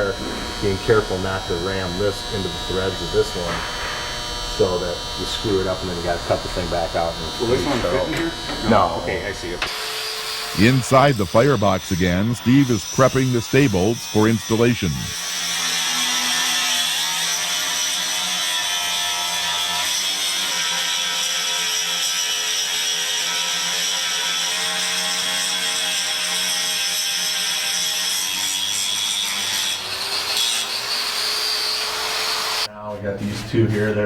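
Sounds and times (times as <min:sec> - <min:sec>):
power tool whining: 0:00.0 - 0:32.7.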